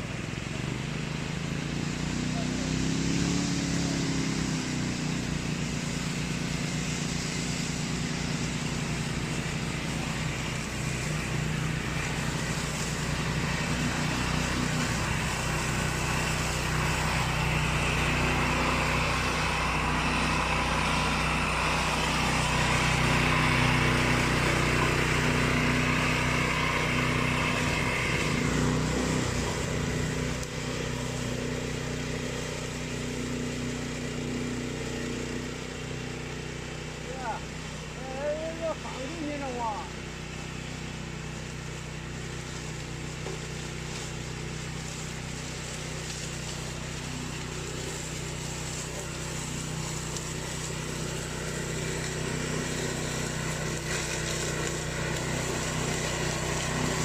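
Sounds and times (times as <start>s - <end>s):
flail mower engine running: 0.0s - 57.0s.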